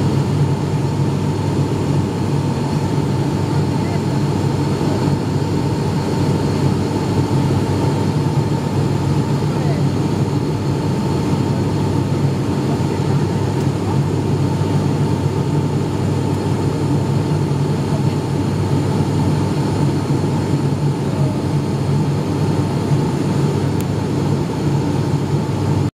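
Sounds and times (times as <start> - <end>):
turboprop cabin drone: 0.0 - 25.9.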